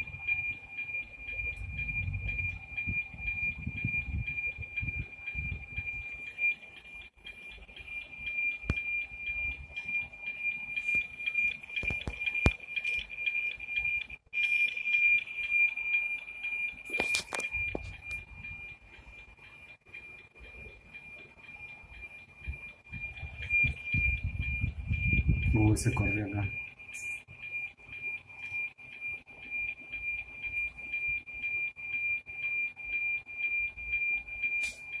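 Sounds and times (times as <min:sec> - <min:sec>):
steady high tone with ticking: 0:00.0 - 0:35.0.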